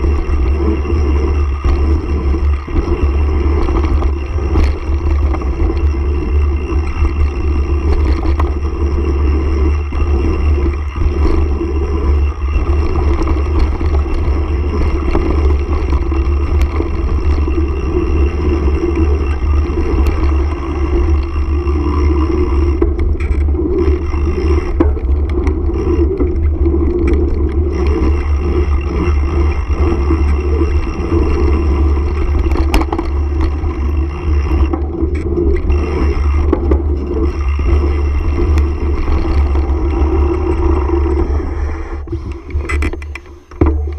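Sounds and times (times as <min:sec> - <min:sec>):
bike clicks and rattles: 0:00.0 - 0:43.9
tyres rumbling on gravel: 0:00.0 - 0:43.9.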